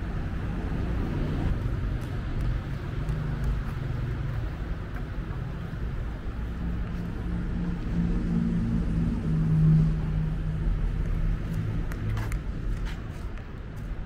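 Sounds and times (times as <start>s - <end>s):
engine drone: 0.0s - 12.7s
road traffic rumble: 0.0s - 14.0s.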